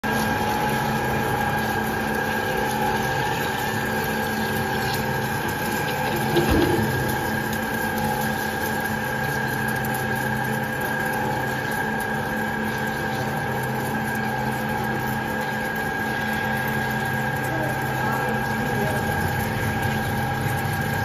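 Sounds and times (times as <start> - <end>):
drilling machine hum: 0.0 - 21.0.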